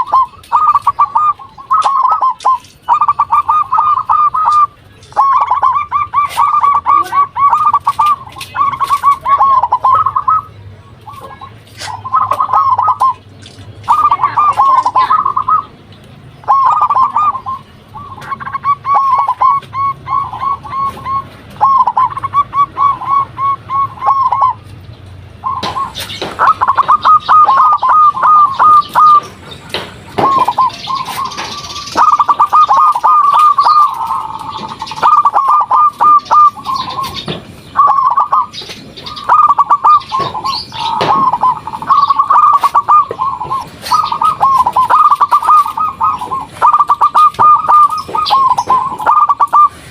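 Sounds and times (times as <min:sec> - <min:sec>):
dove cooing: 0:00.0 - 0:24.6, 0:25.4 - 0:49.9.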